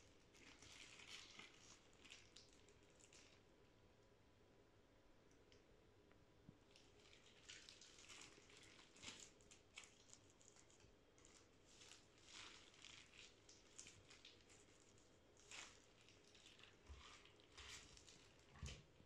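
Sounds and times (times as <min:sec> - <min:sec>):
gloved hands squishing raw meat: 0:00.0 - 0:03.7, 0:06.6 - 0:19.0.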